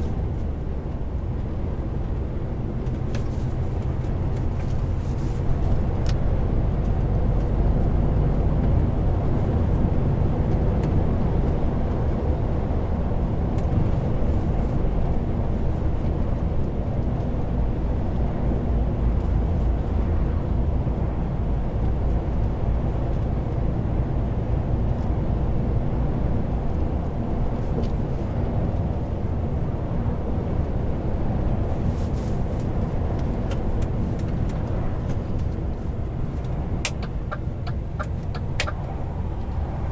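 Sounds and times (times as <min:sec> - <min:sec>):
road noise rumble: 0:00.0 - 0:39.9
truck diesel engine: 0:00.0 - 0:39.9.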